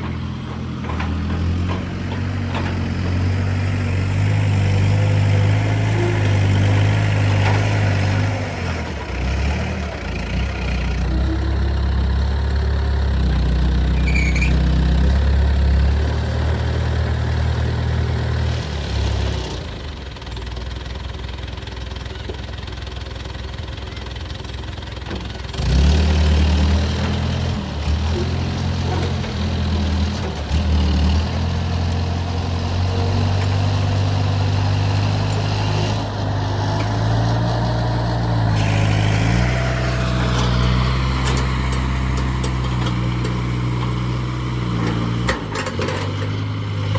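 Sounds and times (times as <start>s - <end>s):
heavy diesel engine changing speed: 0.0s - 20.2s, 24.9s - 46.9s.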